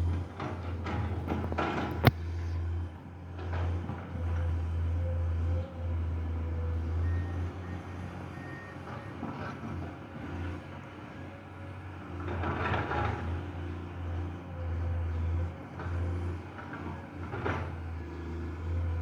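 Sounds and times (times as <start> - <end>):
excavator engine humming: 0.0 - 19.0.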